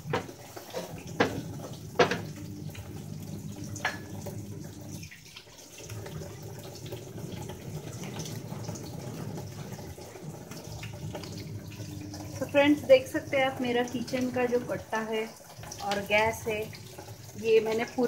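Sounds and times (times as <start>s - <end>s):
tap water running into sink: 0.0s - 18.0s.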